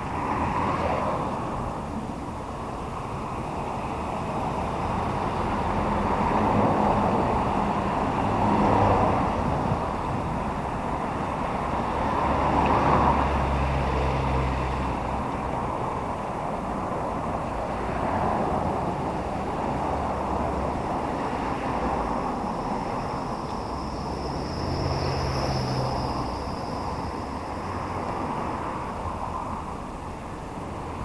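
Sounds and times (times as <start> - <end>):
low engine hum: 0.0 - 31.0
road traffic roar: 0.0 - 31.0
vehicles passing: 0.0 - 31.0.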